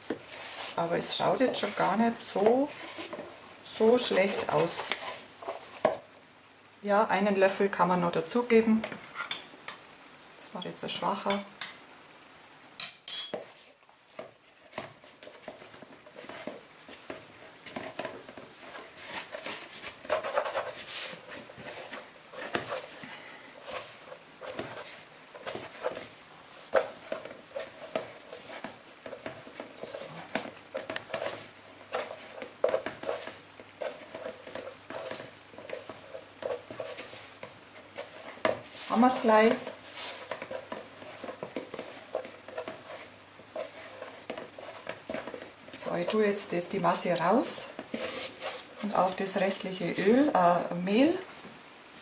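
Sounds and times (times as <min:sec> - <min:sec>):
dough kneading squelches and knocks: 0:00.0 - 0:06.2, 0:13.3 - 0:52.0.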